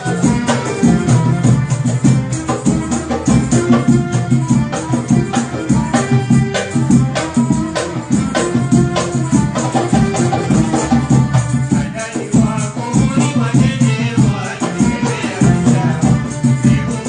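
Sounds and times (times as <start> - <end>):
hand drums: 0.0 - 17.0
rattling percussion: 0.0 - 17.0.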